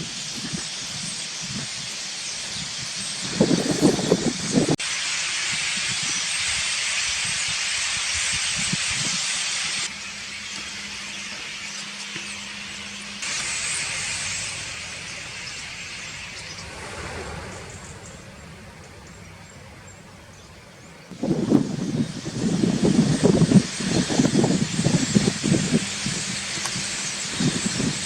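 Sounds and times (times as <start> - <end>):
flock of starlings chattering: 0.0 - 28.0.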